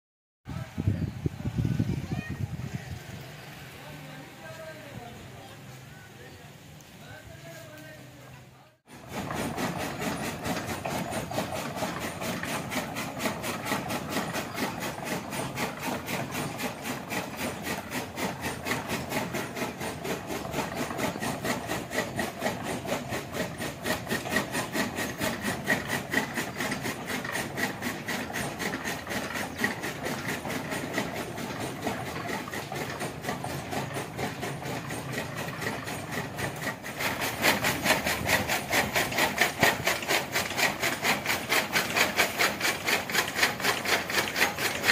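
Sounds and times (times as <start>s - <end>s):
gear machine clattering: 9.0s - 44.9s.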